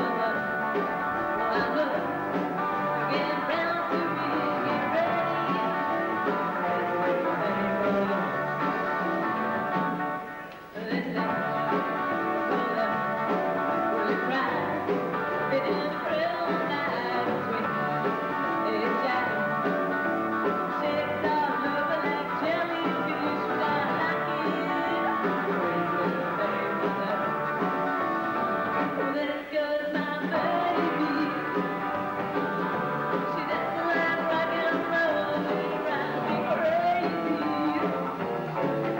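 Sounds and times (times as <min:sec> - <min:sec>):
live rock band: 0:00.0 - 0:38.9
woman singing: 0:00.0 - 0:38.9.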